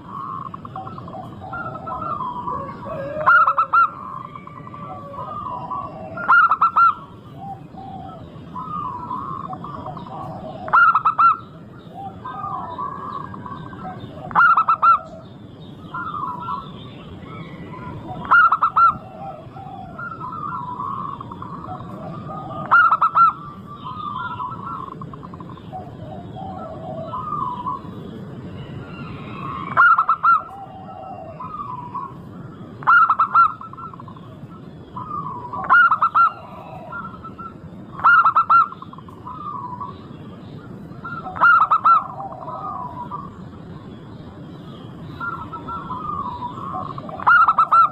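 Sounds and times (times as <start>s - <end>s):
doves cooing: 0.0s - 47.9s
low background noise: 0.0s - 47.9s.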